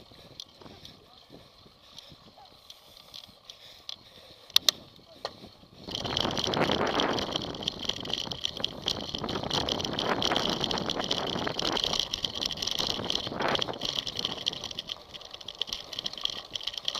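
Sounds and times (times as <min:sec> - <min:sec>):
bike rattling and clicking: 0:00.0 - 0:16.9.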